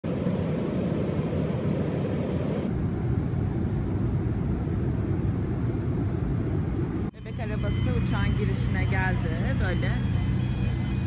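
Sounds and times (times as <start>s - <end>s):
airliner cabin noise: 0.0s - 11.0s
deeper rumble: 0.1s - 11.0s.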